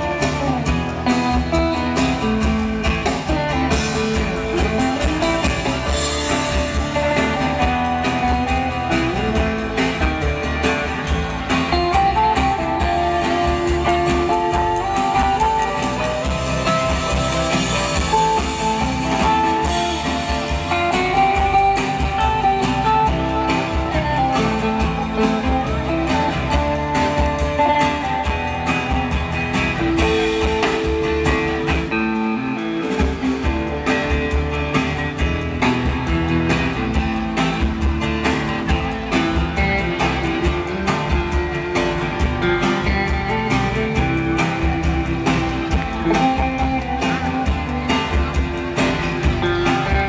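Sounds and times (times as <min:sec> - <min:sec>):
drums: 0:00.0 - 0:50.0
electric bass: 0:00.0 - 0:50.0
electric guitar melody: 0:00.0 - 0:50.0
strummed acoustic guitar: 0:00.0 - 0:50.0.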